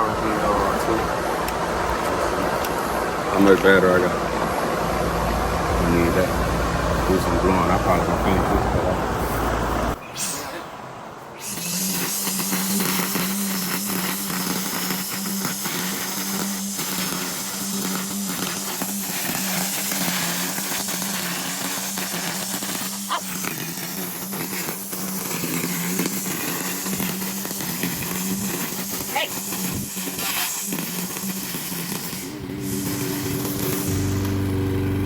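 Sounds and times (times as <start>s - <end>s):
leaf blower running: 0.0s - 10.0s, 11.4s - 35.0s.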